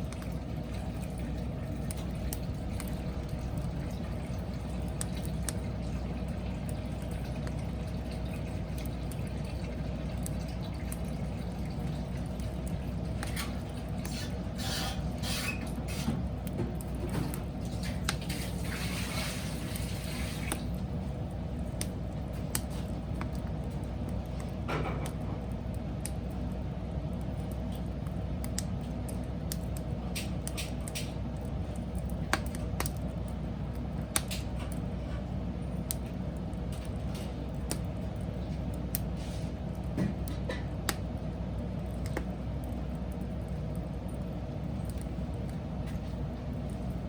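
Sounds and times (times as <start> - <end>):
wood crackling and popping: 0.0 - 47.0.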